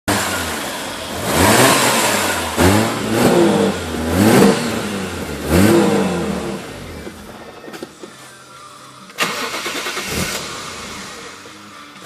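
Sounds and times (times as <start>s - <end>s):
car engine revving: 0.1s - 7.3s, 9.2s - 12.0s.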